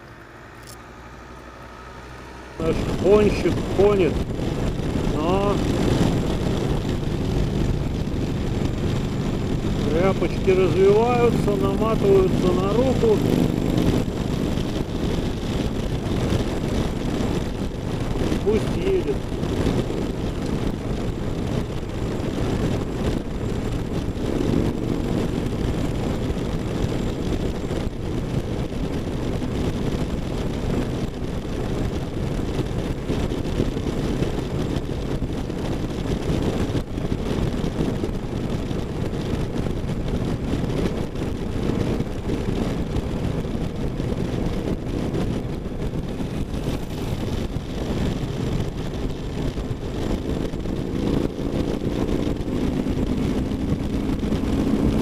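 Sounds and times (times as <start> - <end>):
motorcycle engine rumble: 0.0 - 55.0
wind rush on microphone: 0.0 - 55.0.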